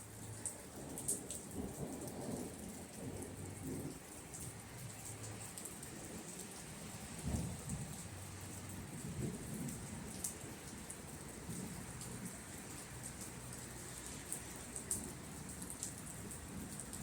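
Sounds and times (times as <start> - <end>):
sharp rain drips: 0.0 - 17.0
steady rain: 0.0 - 17.0.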